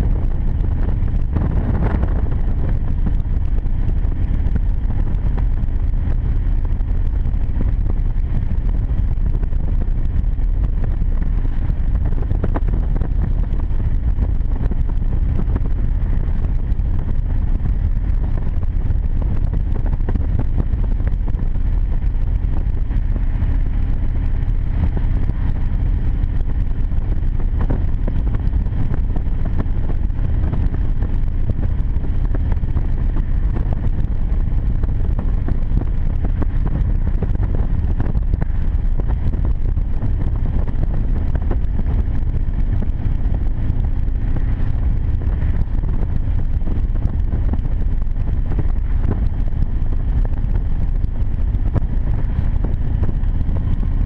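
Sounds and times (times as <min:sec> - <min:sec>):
motorcycle engine cruising: 0:00.0 - 0:54.0
wind buffeting microphone: 0:00.0 - 0:54.0.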